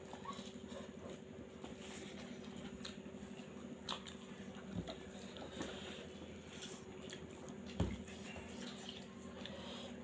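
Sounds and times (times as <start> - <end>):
wet squishing of food: 0.0 - 9.8.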